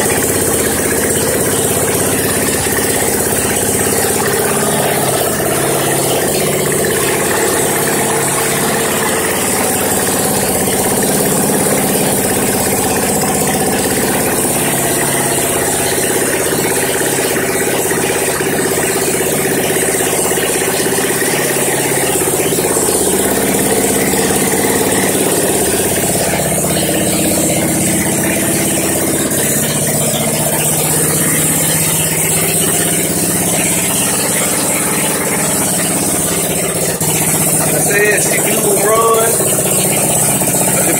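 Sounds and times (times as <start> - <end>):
small gasoline engine idling: 0.0 - 40.9.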